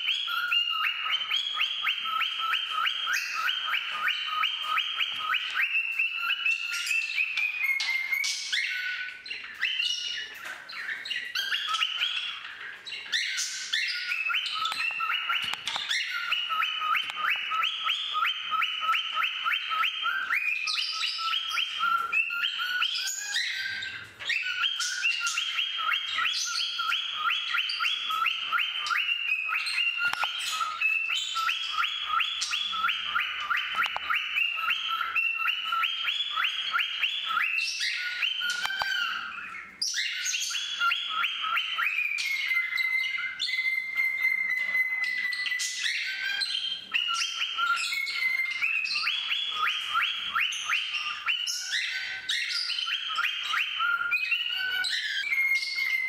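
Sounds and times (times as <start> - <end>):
pet birds chirping and singing: 0.0 - 56.0.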